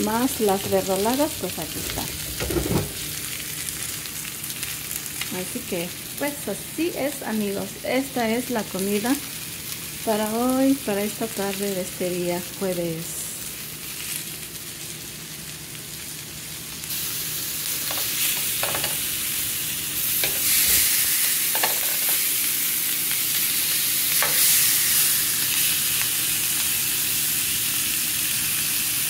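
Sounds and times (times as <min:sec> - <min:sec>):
chicken sizzling on grill pan: 0:00.0 - 0:29.0.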